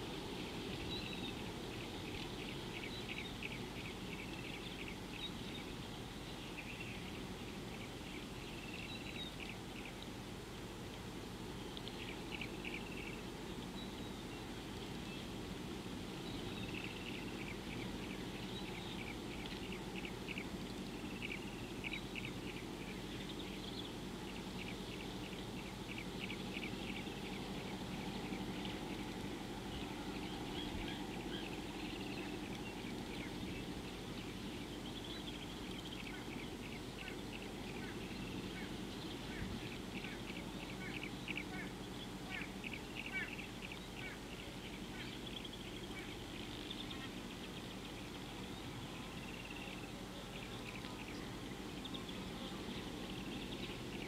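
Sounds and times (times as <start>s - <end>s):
birds ticking calls: 0.0s - 54.0s
low background rumble: 0.0s - 54.0s.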